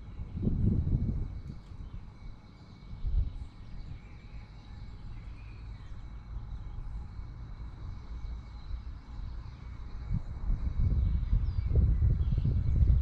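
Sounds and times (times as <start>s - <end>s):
steady low rumble: 0.0s - 13.0s
faint bird chirps: 1.2s - 13.0s.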